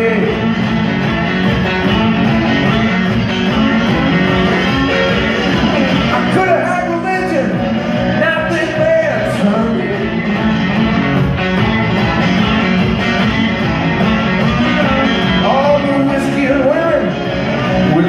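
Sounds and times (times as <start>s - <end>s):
blues-rock band playing: 0.0s - 18.0s
electric guitar: 0.0s - 18.0s
person singing: 1.9s - 18.0s.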